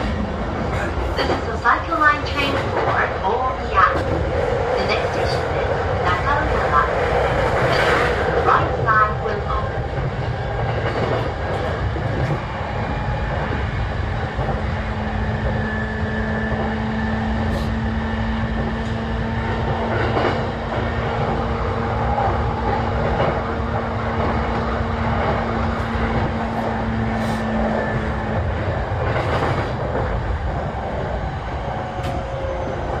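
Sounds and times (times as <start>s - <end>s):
electric train hum: 0.0s - 33.0s
wheels rumbling on rail: 0.0s - 33.0s.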